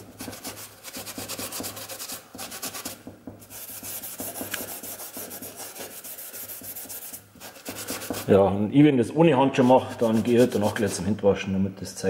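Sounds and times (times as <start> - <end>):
abrasive pad scrubbing wet paint: 0.0 - 8.4, 9.5 - 11.2.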